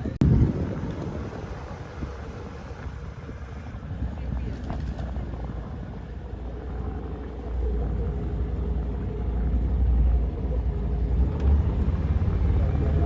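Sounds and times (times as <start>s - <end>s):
boat motor low rumble: 0.0s - 13.0s.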